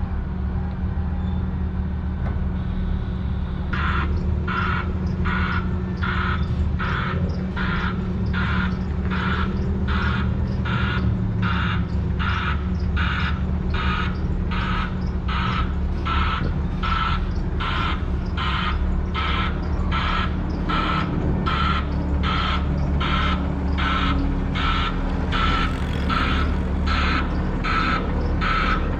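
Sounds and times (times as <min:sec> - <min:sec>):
diesel truck engine running: 0:00.0 - 0:28.9
truck reversing alarm beeping: 0:01.2 - 0:28.9.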